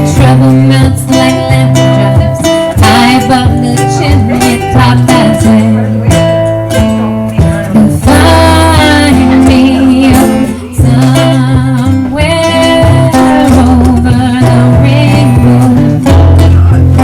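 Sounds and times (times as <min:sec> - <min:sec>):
acoustic guitar strumming: 0:00.0 - 0:17.0
person singing: 0:00.0 - 0:17.0.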